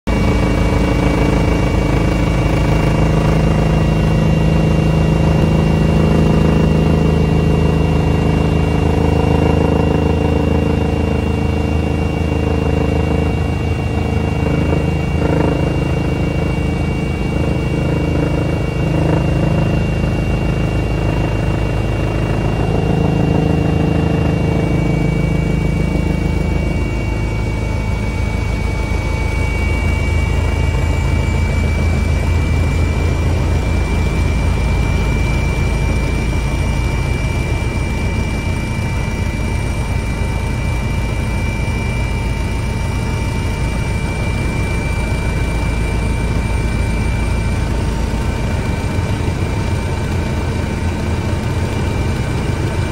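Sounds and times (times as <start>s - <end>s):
helicopter rotor and engine drone: 0.1s - 52.9s
high even whine: 0.1s - 52.9s.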